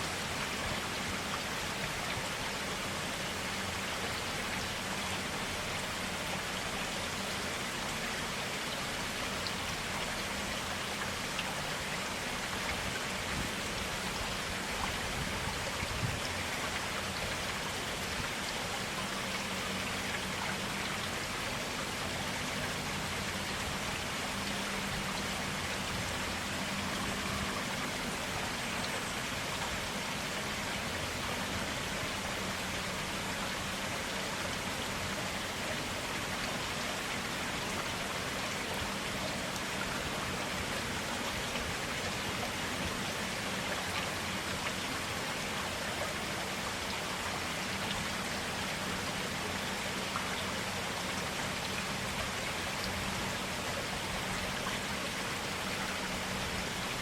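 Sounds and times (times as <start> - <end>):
stream flowing and splashing: 0.0 - 57.0.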